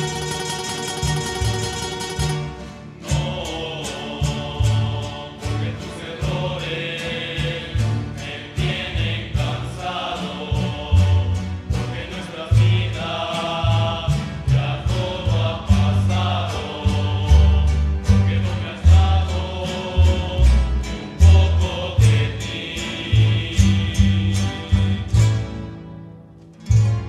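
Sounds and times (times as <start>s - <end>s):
chorus of voices holding notes: 0.0s - 27.0s
strummed guitars and walking bass: 0.0s - 27.0s.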